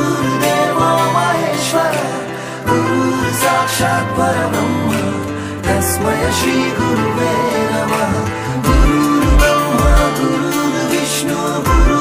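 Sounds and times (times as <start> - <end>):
melodic music with steady beat: 0.0 - 12.0.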